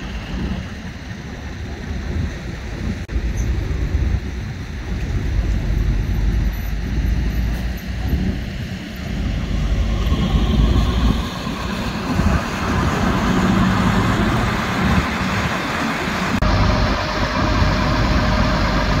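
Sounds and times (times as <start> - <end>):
diesel truck engine running: 0.0 - 19.0
steady whine: 0.0 - 19.0.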